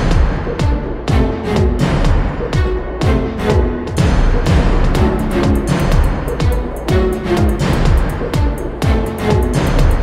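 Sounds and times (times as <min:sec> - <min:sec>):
electronic drum music: 0:00.0 - 0:10.0.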